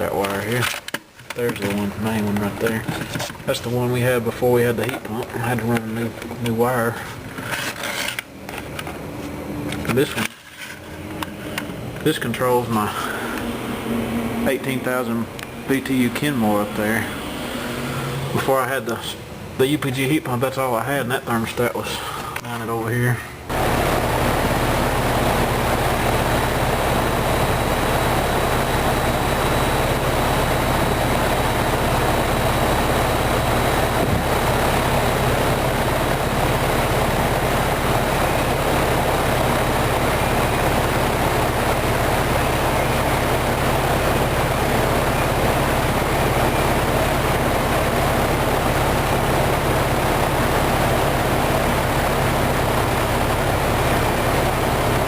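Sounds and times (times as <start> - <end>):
compressor hum: 0.0 - 55.0
fan rushing: 0.0 - 55.0.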